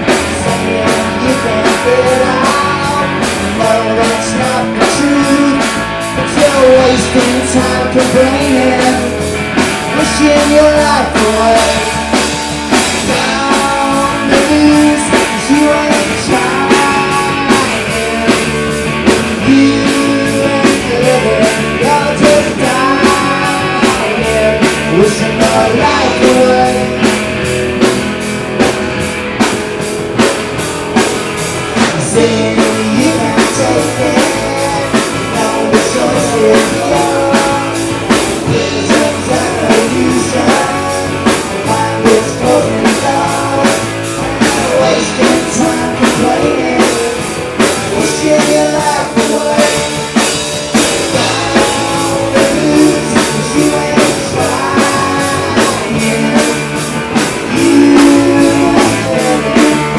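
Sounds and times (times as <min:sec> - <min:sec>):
driving drum beat: 0:00.0 - 0:59.9
rock band playing live: 0:00.0 - 0:59.9.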